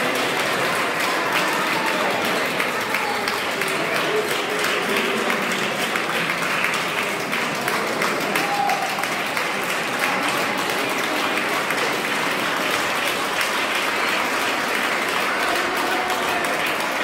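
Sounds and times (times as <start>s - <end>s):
applause and hand-clapping: 0.0s - 17.0s.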